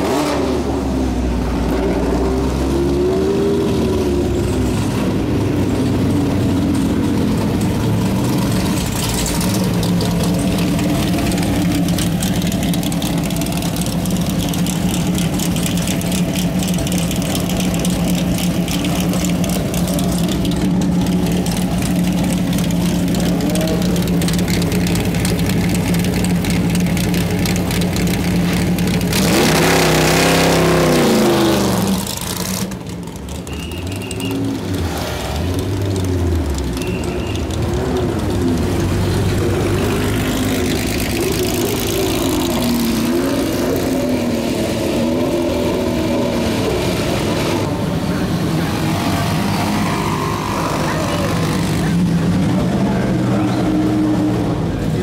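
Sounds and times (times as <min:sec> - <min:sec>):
race car engine idling and revving: 0:00.0 - 0:55.0.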